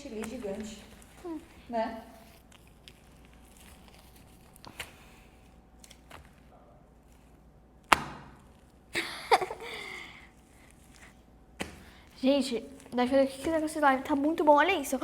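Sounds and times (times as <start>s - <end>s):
foam slime squishing: 0.0s - 9.0s, 10.1s - 15.0s.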